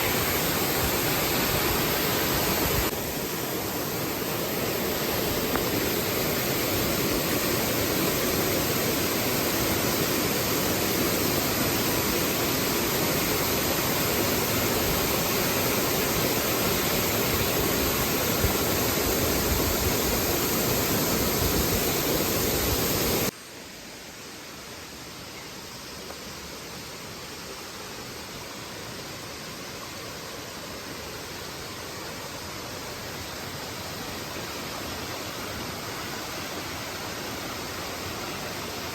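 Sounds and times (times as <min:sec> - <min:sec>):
waterfall rushing: 0:00.0 - 0:23.4, 0:27.2 - 0:38.9.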